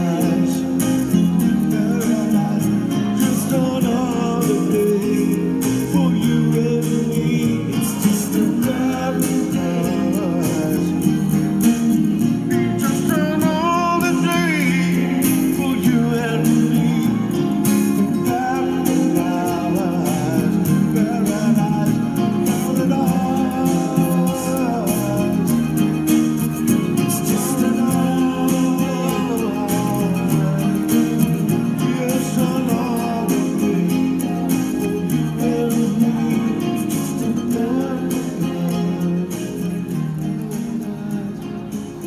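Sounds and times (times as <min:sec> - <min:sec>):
acoustic guitar strumming: 0:00.0 - 0:42.0
man singing into microphone: 0:00.0 - 0:42.0.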